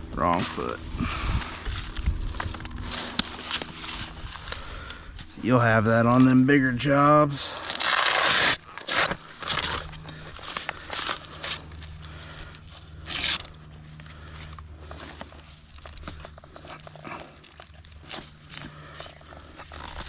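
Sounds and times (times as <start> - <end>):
climbing spikes scraping tree bark: 0.0 - 20.0.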